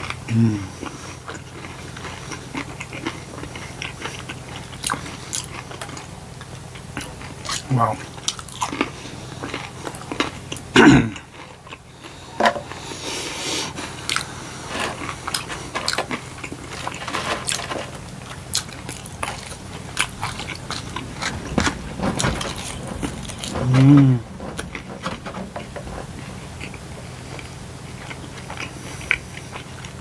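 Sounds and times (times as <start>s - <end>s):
chewing crunchy food: 0.0s - 30.0s.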